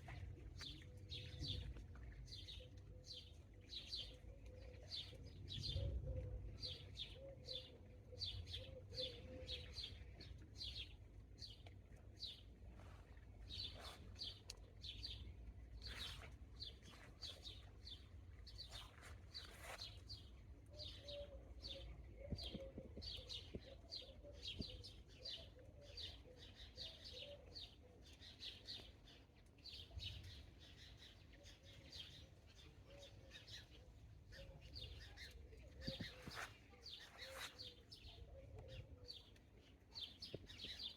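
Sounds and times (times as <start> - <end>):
small birds chirping: 6.6 - 40.9.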